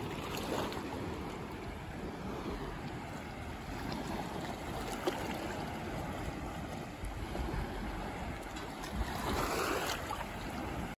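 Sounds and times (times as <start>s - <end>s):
small water splashes: 0.0s - 11.0s.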